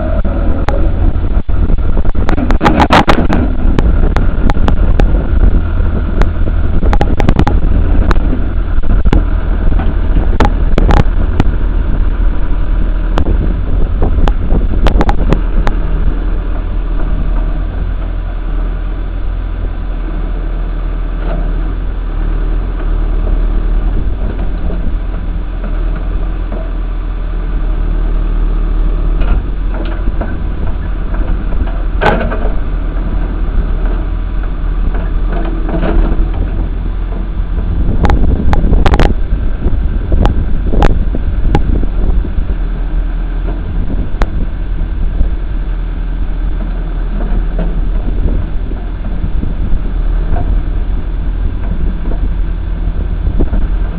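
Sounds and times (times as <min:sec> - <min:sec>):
backhoe engine running: 0:00.0 - 0:53.9.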